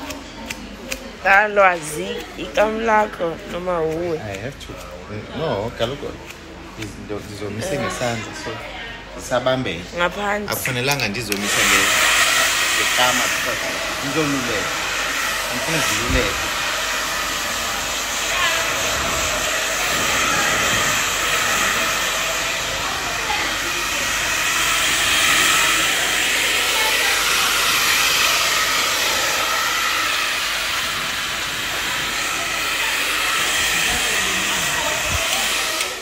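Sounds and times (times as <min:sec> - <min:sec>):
hair dryer blowing: 0:00.0 - 0:04.5, 0:11.2 - 0:36.0.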